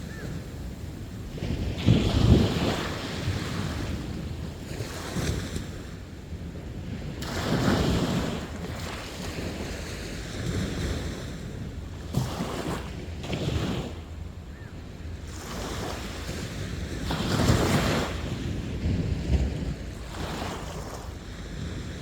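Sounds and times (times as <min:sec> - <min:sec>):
sea waves breaking on beach: 0:00.0 - 0:14.3, 0:15.3 - 0:22.0.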